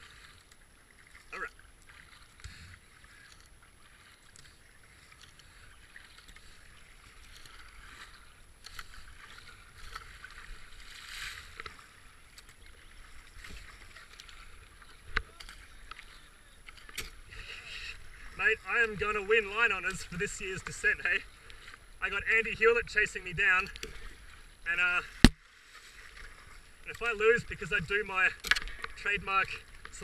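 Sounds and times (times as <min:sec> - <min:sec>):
paddle splashing water: 0:00.0 - 0:30.0.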